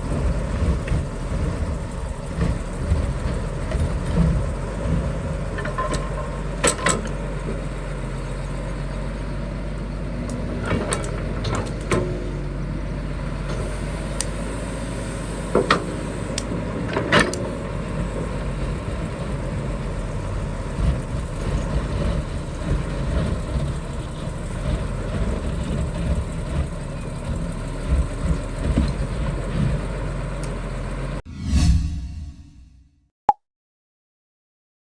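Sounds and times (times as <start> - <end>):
excavator engine running: 0.0 - 31.2.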